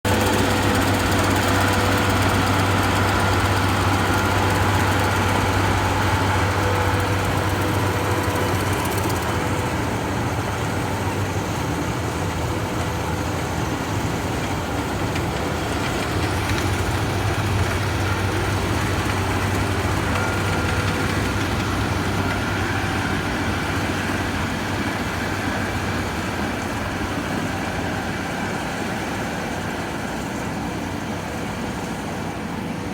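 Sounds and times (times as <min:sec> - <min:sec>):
harvester engine humming: 0:00.0 - 0:32.9.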